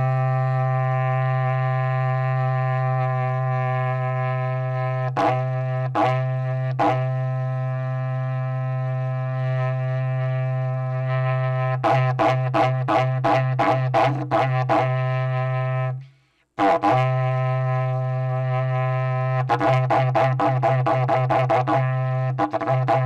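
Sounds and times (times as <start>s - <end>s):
cattle horn blown: 0.0s - 23.0s.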